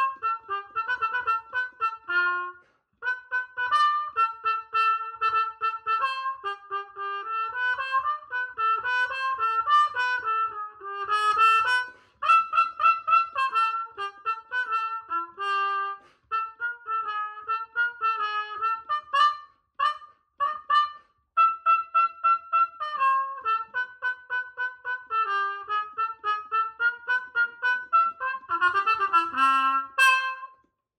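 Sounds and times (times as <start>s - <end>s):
muted cornet playing lively tune: 0.0s - 30.7s.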